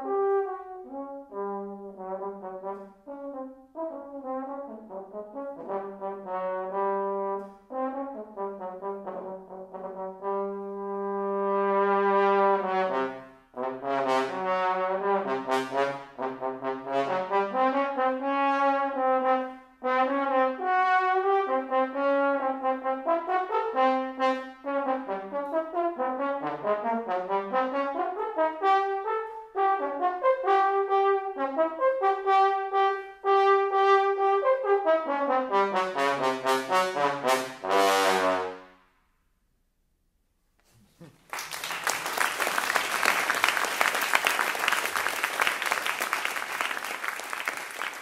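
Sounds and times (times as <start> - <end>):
trombone playing a fast melody: 0.0 - 38.7.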